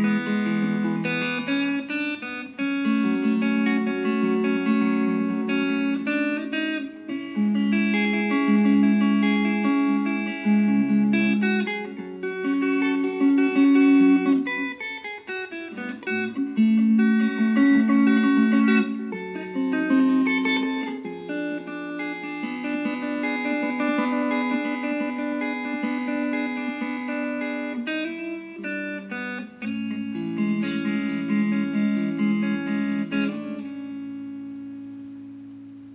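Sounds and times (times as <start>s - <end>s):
electric guitar playing: 0.0s - 35.9s.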